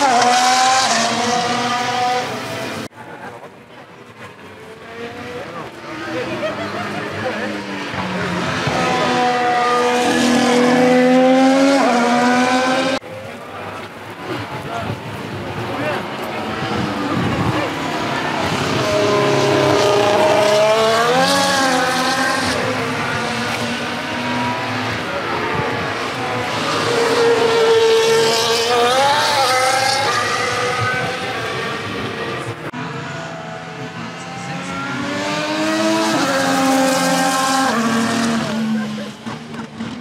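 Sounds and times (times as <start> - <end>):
racing cars passing: 0.0 - 40.0.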